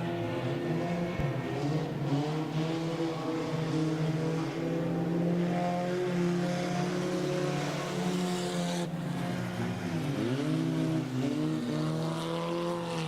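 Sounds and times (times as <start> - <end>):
race car engines racing: 0.0 - 13.0.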